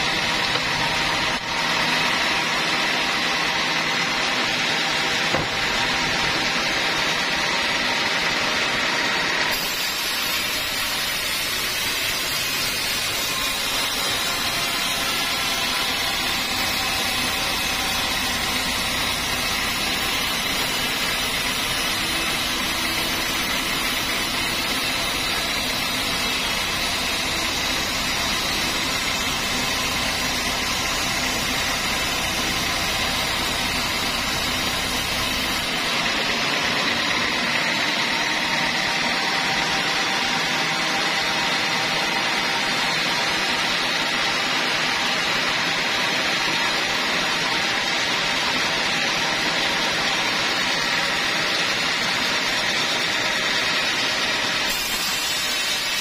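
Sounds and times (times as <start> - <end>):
band saw cutting log: 0.0 - 56.0.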